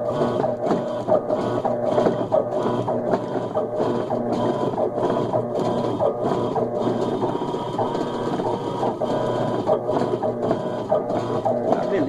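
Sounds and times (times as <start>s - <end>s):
washing machine agitating: 0.0s - 12.0s.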